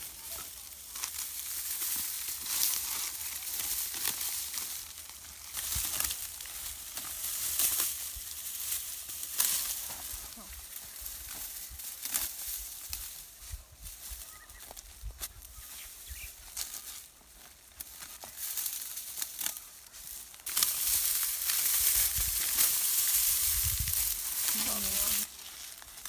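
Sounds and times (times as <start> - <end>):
dry stalks crackling and rustling: 0.0 - 26.0.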